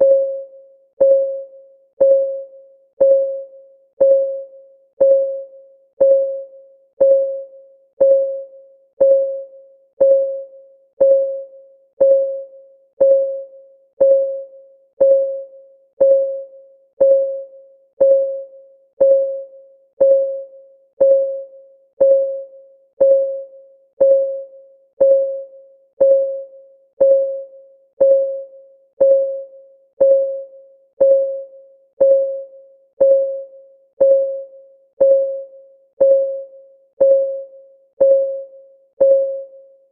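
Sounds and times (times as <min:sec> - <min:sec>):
electronic clock ticking: 0:00.0 - 0:39.6.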